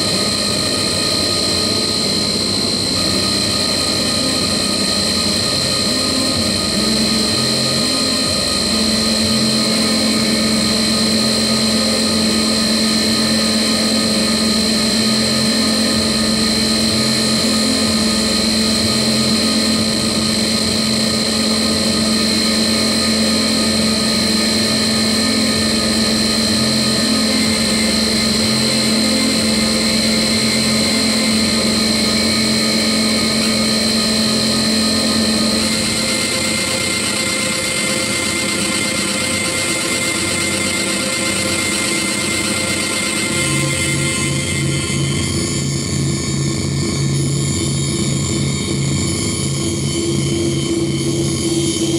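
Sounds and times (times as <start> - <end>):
low hum: 0.0 - 51.9
low throbbing pulse: 0.0 - 51.9
steady high whine: 0.0 - 51.9.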